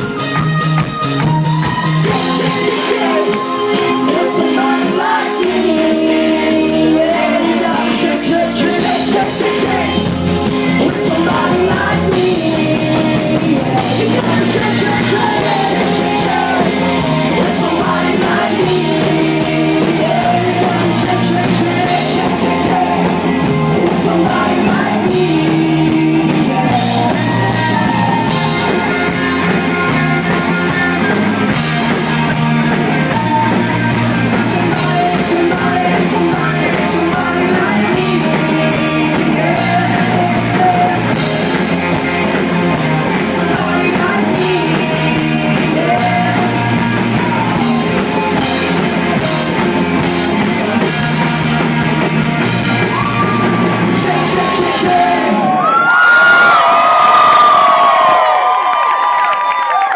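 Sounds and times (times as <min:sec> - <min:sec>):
live rock band playing: 0:00.0 - 0:58.1
lead vocal singing: 0:01.7 - 0:58.2.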